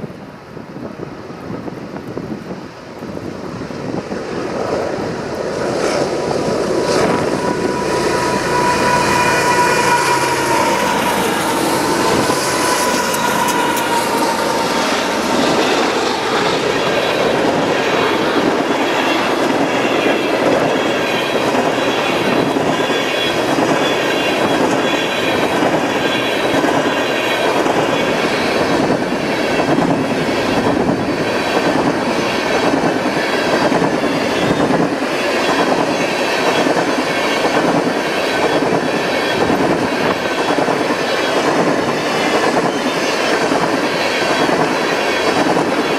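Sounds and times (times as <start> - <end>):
train wheels squealing: 6.9 - 45.9.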